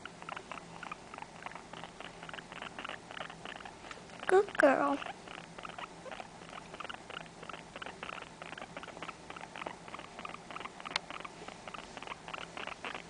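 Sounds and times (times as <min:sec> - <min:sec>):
guinea pig chutting: 0:00.0 - 0:13.0.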